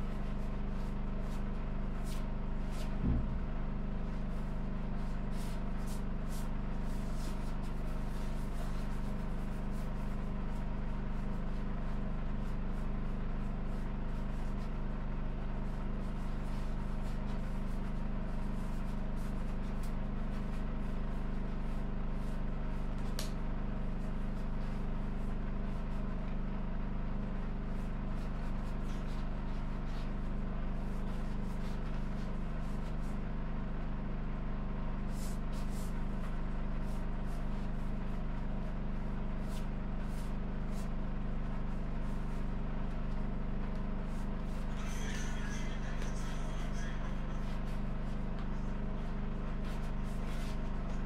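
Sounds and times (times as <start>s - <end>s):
steady machine hum: 0.0s - 51.0s.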